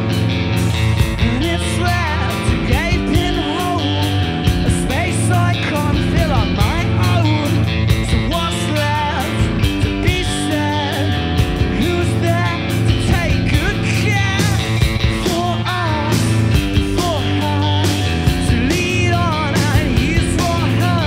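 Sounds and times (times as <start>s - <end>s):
drum kit: 0.0s - 21.0s
electric guitar: 0.0s - 21.0s
person singing: 1.1s - 21.0s.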